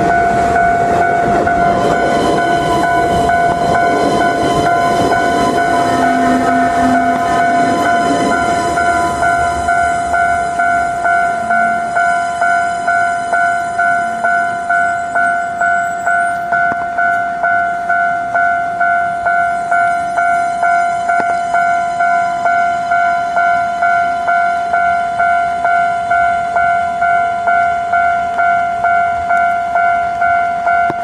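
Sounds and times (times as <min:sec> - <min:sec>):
level crossing bell ringing: 0:00.0 - 0:31.0.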